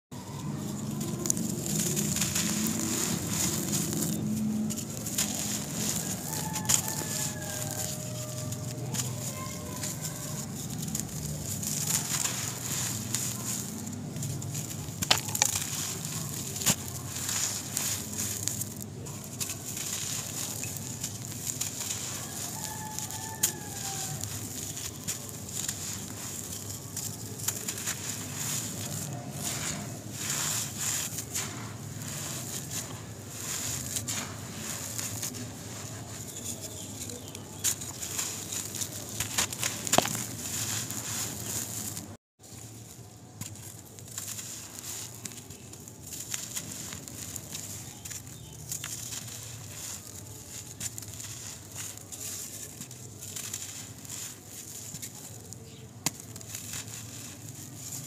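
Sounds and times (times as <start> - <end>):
dirt crunching by hand: 0.1 - 58.0
falling grit patter: 0.1 - 58.0.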